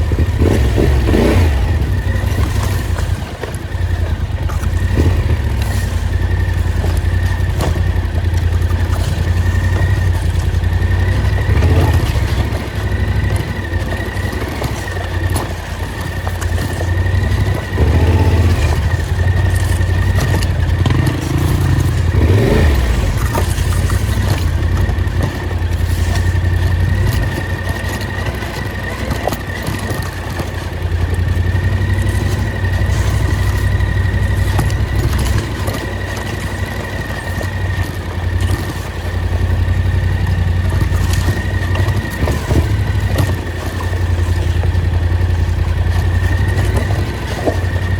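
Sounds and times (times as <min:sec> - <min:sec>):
knocks and rattles: 0:00.0 - 0:47.9
off-road vehicle engine: 0:00.0 - 0:47.9.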